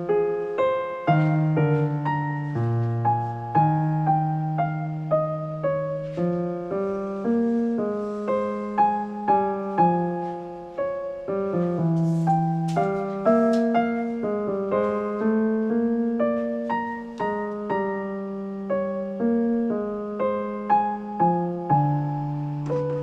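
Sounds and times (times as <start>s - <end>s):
gentle solo piano: 0.0s - 23.0s.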